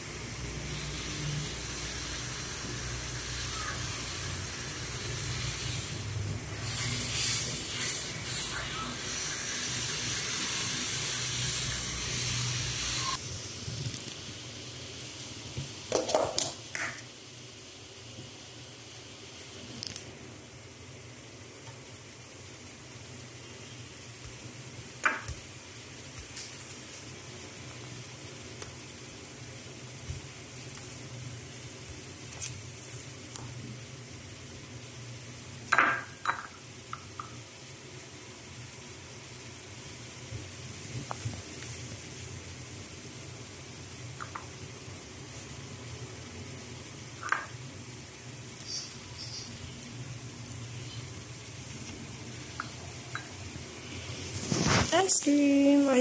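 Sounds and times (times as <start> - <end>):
low background hum: 0.0 - 56.0
steady hiss: 0.0 - 56.0.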